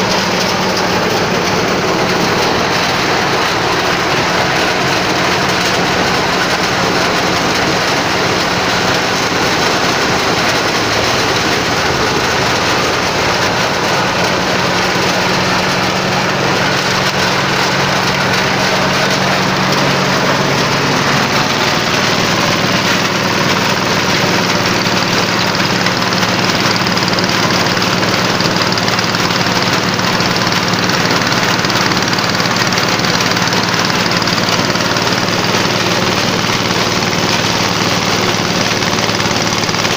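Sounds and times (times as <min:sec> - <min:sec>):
corn sheller clattering: 0:00.0 - 0:39.9.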